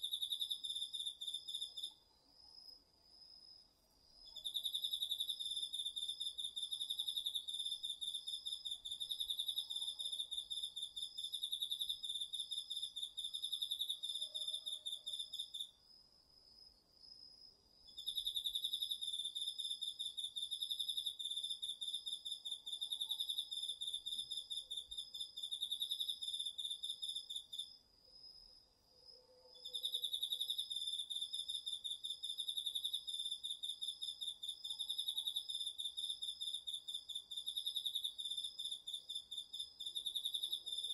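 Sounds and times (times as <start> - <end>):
faint high insect trill: 0.0 - 40.9.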